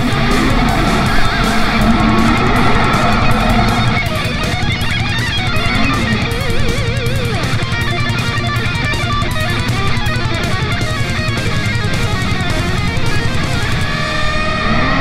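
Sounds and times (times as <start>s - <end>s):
steady beat: 0.0s - 14.5s
bass guitar: 0.0s - 15.0s
electric guitar with bent notes: 0.0s - 15.0s.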